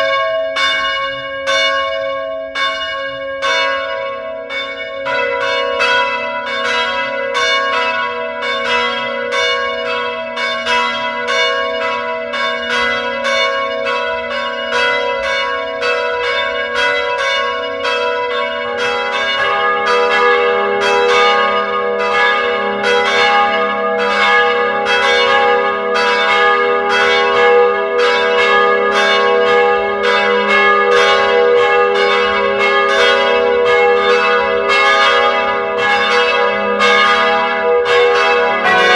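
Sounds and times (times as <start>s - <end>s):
bells ringing: 0.0s - 38.9s.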